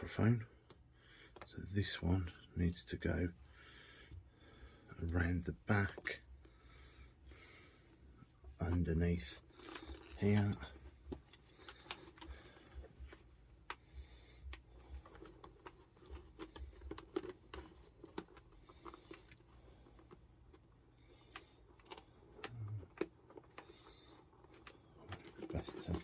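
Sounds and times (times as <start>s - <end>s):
faint clicks and rustles: 3.1s - 26.0s.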